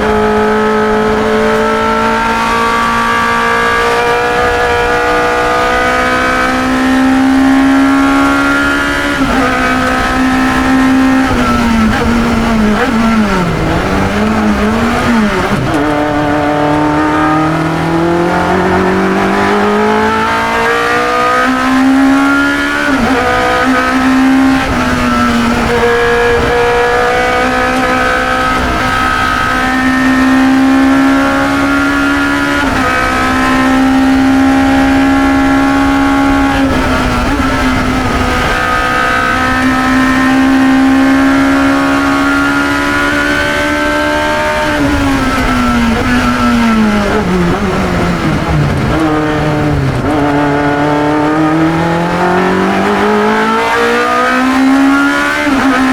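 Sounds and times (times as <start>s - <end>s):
racing car engine revving: 0.0s - 55.9s.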